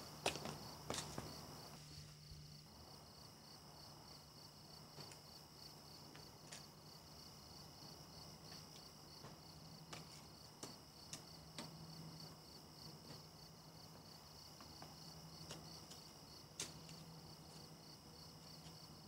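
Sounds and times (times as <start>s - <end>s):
faint crickets chirping: 0.0s - 19.0s.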